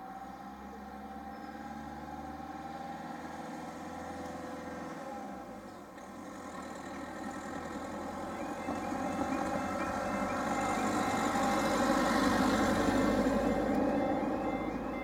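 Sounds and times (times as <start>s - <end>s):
van engine passing: 0.0s - 15.0s.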